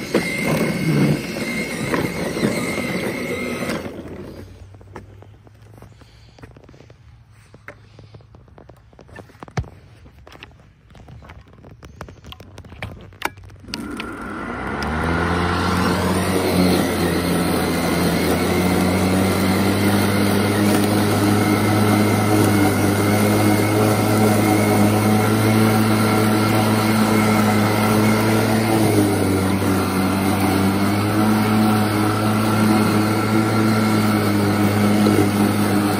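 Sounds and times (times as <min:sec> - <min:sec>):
electric lawn mower humming: 0:00.0 - 0:06.9, 0:11.7 - 0:35.9.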